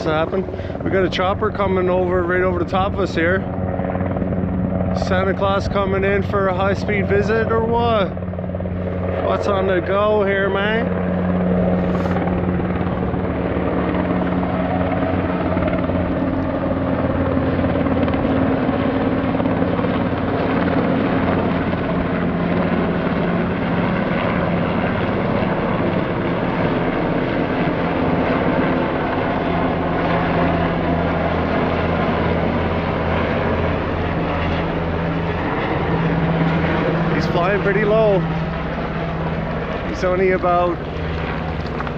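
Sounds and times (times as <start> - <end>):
helicopter flying low overhead: 0.0 - 41.9.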